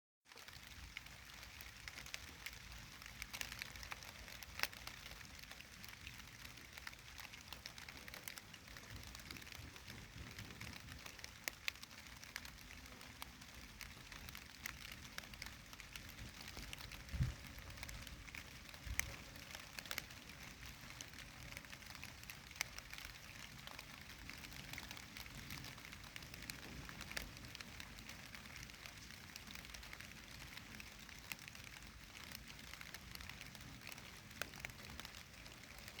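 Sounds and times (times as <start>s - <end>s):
raindrops ticking on surface: 0.2s - 36.0s
faint rain hiss: 0.3s - 36.0s.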